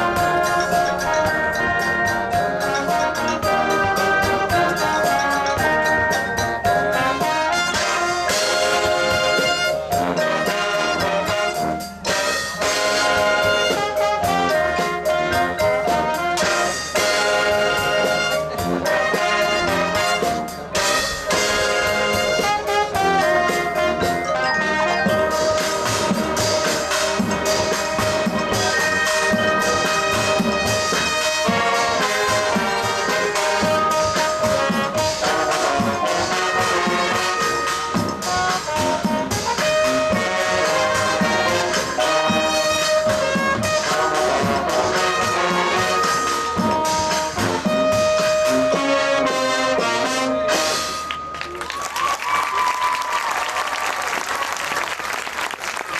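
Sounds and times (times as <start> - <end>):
brass melody: 0.0 - 55.9
marching percussion: 0.0 - 55.9.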